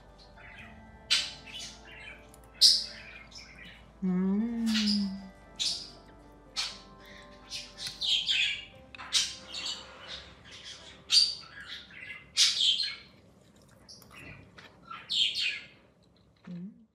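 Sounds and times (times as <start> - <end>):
bird chirping and squawking: 0.2 - 3.9, 4.6 - 13.2, 13.8 - 15.8.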